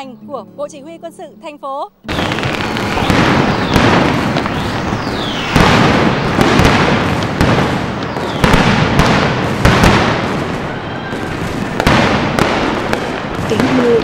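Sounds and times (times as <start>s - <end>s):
firework booms: 2.1s - 14.0s
firework crackling and hiss: 2.1s - 14.0s.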